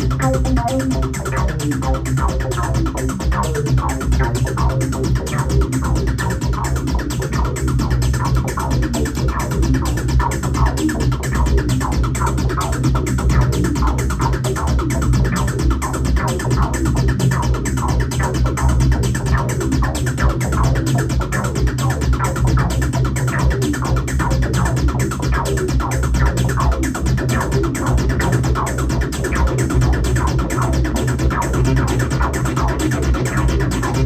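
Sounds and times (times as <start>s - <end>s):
fast drum machine beat: 0.0s - 34.0s
heavy synth bass: 0.0s - 34.0s.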